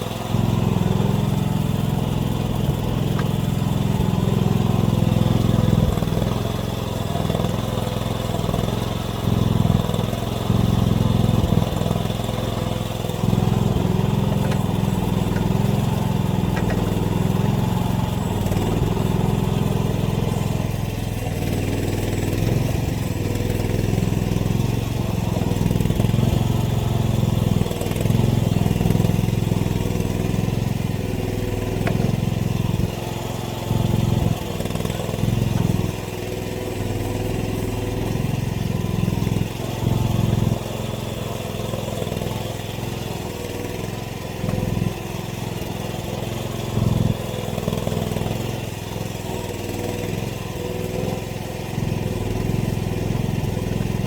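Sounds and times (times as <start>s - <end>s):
mini excavator engine running: 0.0s - 54.0s.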